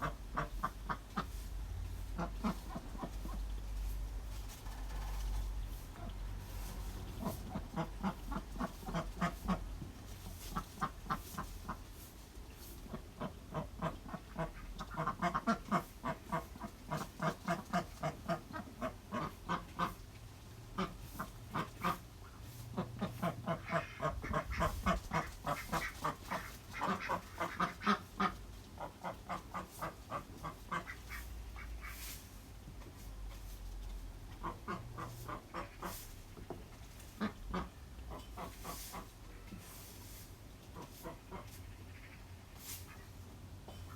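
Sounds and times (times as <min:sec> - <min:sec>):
ducks quacking: 0:00.0 - 0:04.0, 0:05.6 - 0:12.0, 0:12.8 - 0:20.0, 0:20.7 - 0:32.2, 0:34.3 - 0:36.2, 0:37.0 - 0:39.8, 0:40.7 - 0:43.2.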